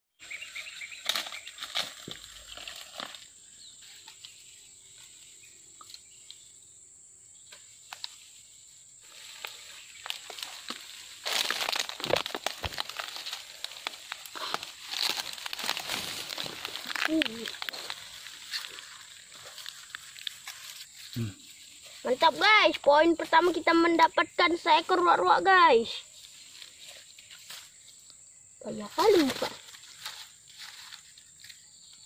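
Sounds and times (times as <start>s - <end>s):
footsteps crunching on dry fronds: 0.2s - 5.5s, 7.6s - 23.7s, 25.8s - 28.0s, 28.9s - 32.0s
dry grass and leaves rustling: 0.2s - 6.7s, 7.3s - 32.0s.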